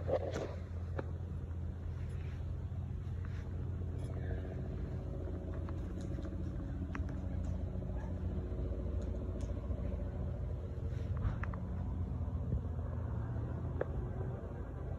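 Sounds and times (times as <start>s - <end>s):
low machine rumble: 0.0s - 14.9s.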